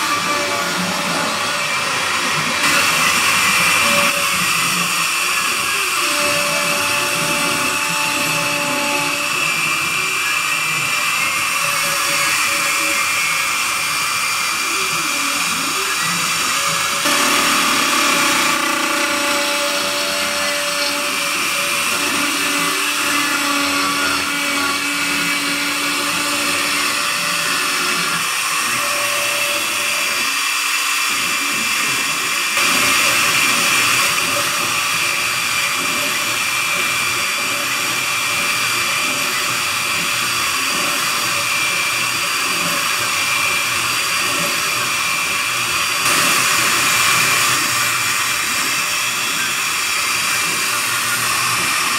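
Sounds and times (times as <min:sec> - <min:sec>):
router spindle whining: 0:00.0 - 0:51.9.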